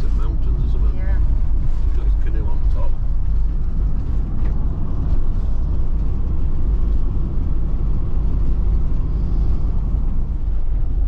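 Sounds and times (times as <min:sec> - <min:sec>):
engine and road noise: 0:00.0 - 0:11.0.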